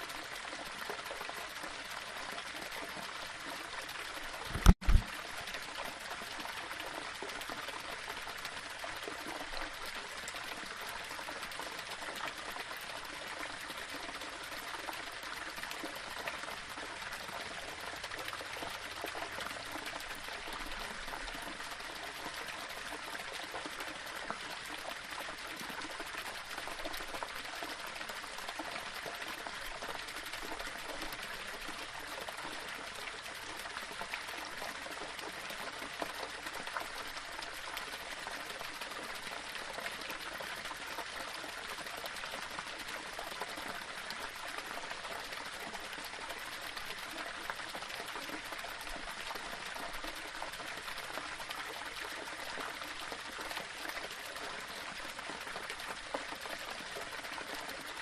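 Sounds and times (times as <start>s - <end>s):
small waterfall over rocks: 0.0s - 58.0s.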